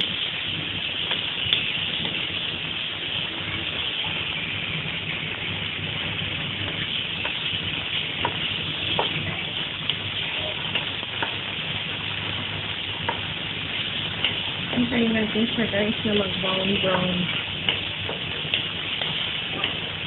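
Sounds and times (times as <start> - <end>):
chicken sizzling in a frying pan: 0.0 - 20.0.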